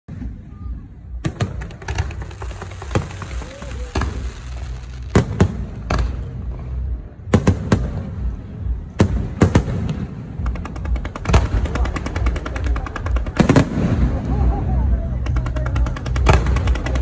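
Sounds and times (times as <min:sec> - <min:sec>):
fireworks bangs: 0:00.1 - 0:17.0
fireworks crackling pops: 0:01.1 - 0:08.3, 0:09.0 - 0:14.5, 0:15.2 - 0:17.0.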